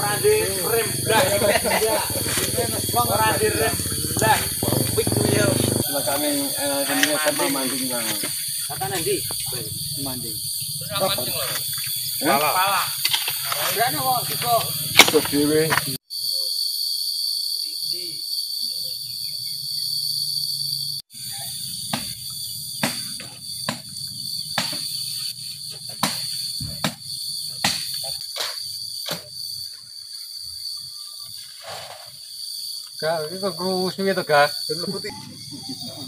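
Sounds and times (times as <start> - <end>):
insect chorus chirring: 0.0 - 36.0.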